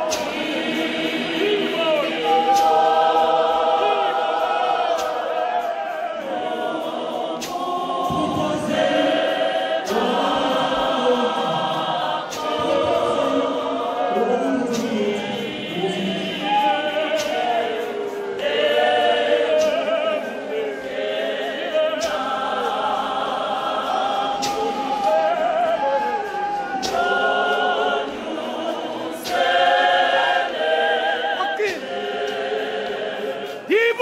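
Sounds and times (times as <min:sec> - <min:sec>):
congregation singing a hymn: 0:00.0 - 0:34.0.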